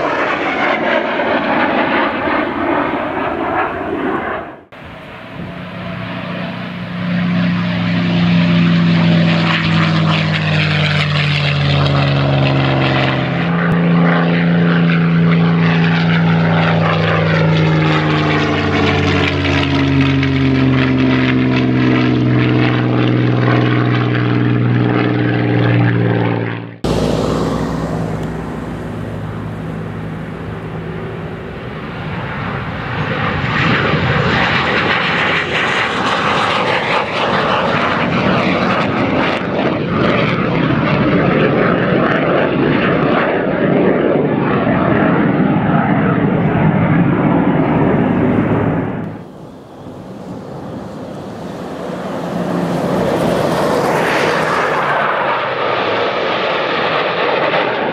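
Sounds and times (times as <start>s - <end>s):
jet passing with even roar: 0.0s - 57.9s
propeller plane flying past: 0.0s - 57.9s.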